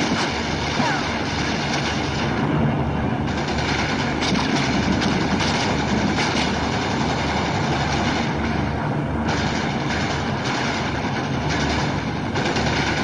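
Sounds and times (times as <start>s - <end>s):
dense mechanical rumble: 0.0s - 13.0s.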